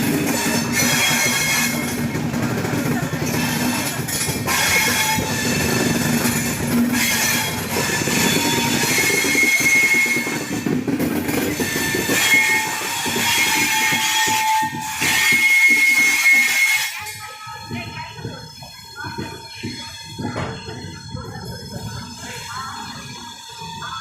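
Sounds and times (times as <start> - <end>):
train rumble: 0.0 - 24.0
train wheels screeching on rails: 0.0 - 24.0.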